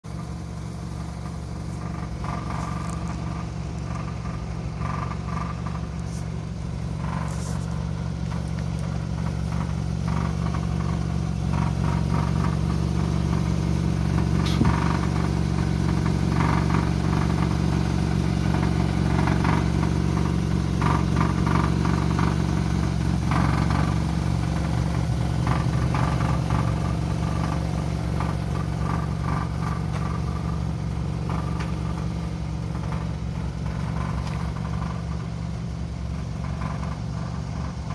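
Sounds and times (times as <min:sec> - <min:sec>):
car engine running: 0:00.0 - 0:37.9
metallic exhaust rattle: 0:00.1 - 0:37.9.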